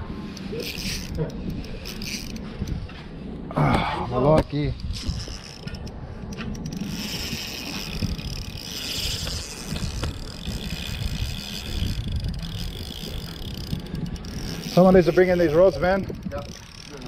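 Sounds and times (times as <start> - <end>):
fishing reel whirring and clicking: 0.2 - 2.9, 4.8 - 17.0.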